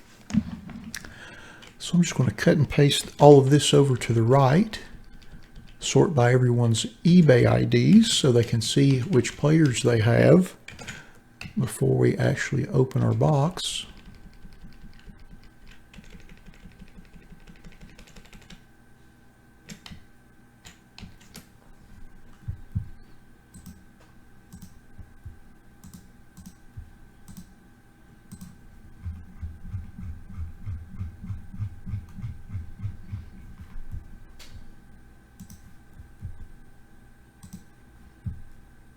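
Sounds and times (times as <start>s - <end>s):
faint electrical hum: 0.0s - 38.9s.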